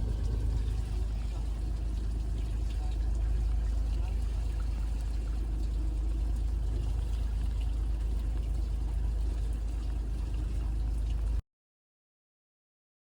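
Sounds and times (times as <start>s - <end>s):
boat engine rumbling: 0.0s - 11.4s
water wash: 0.0s - 11.4s.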